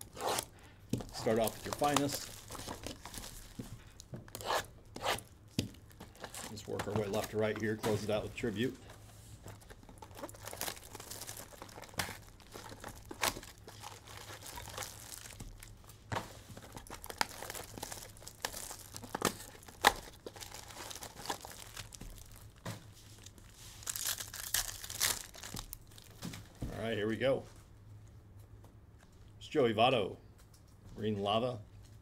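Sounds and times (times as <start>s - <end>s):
wrappers tearing and crinkling: 0.0s - 26.2s.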